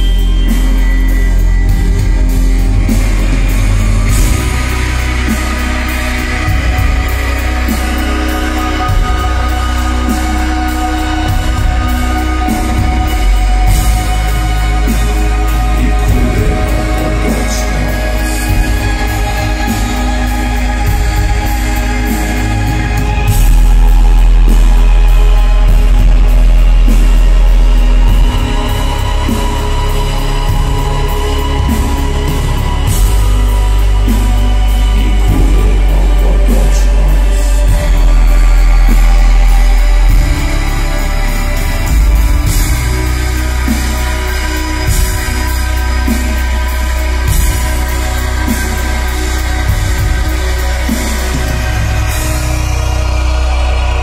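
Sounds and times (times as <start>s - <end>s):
heavy bass: 0.0s - 54.0s
live rock band playing: 0.0s - 54.0s
steady drums: 0.0s - 54.0s.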